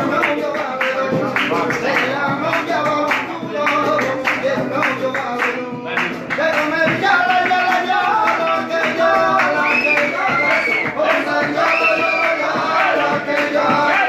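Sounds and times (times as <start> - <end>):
acoustic guitar strummed: 0.0 - 14.0
man singing: 0.0 - 14.0.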